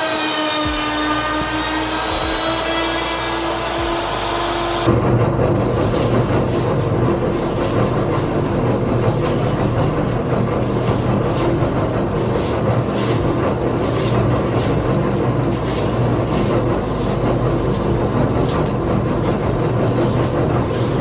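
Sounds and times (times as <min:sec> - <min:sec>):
power tool sanding wood: 0:00.0 - 0:04.9, 0:05.5 - 0:21.0.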